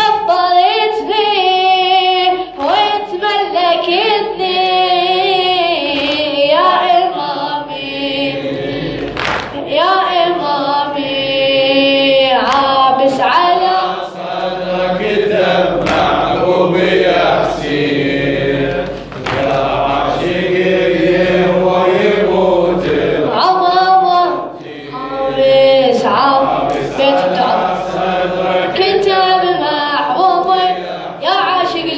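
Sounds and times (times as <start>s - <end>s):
group of voices chanting: 5.1s - 31.9s.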